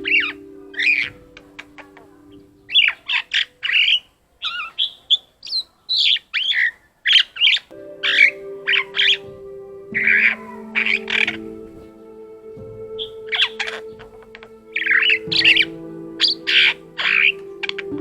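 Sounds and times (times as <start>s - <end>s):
starling singing: 0.0s - 18.0s.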